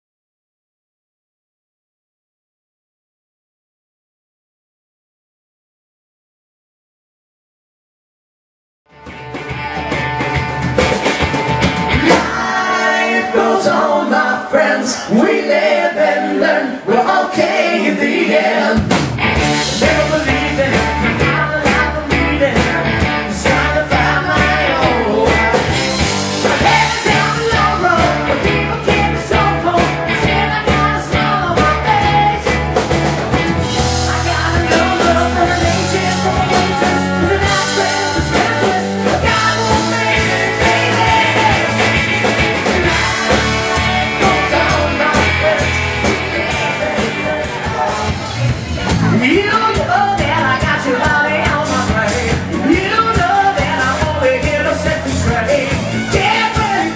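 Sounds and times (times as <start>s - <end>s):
rock song: 8.9s - 56.9s.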